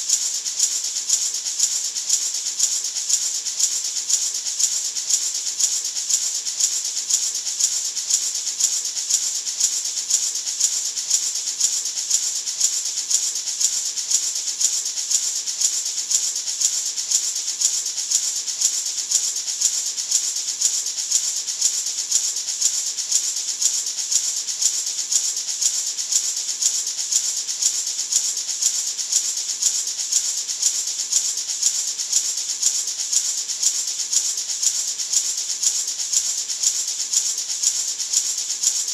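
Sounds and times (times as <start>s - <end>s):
maraca rattling: 0.0s - 38.9s.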